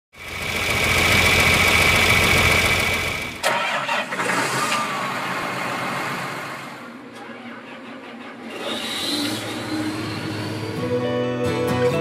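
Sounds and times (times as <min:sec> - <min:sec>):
tractor engine starting: 0:00.2 - 0:11.0.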